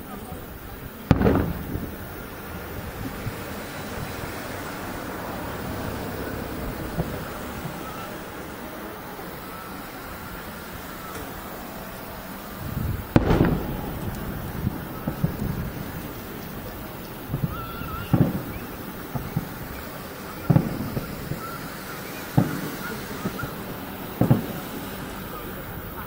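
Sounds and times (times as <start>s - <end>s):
distant firework booms: 0.3s - 26.0s.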